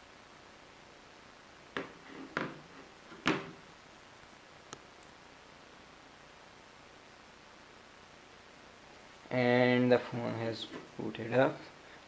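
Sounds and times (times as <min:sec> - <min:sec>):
faint room tone hiss: 0:00.0 - 0:12.0.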